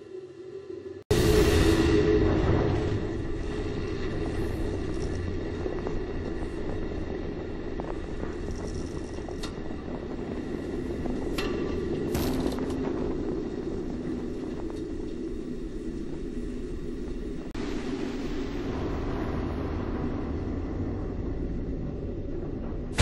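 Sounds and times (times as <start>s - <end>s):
rushing wind and rumble: 0.0s - 23.0s.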